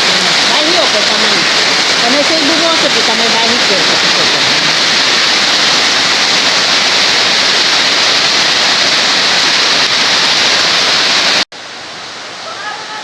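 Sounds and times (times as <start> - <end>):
heavy rain downpour: 0.0 - 13.0.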